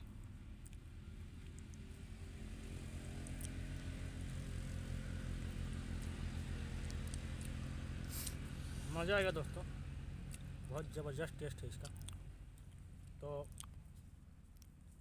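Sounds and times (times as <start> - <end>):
distant engine droning: 0.0 - 15.0.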